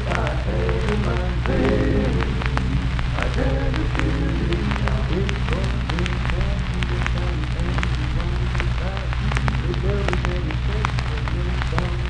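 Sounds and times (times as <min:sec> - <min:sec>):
low hum: 0:00.0 - 0:12.0
record surface crackle: 0:00.0 - 0:12.0
voices singing: 0:00.0 - 0:12.0.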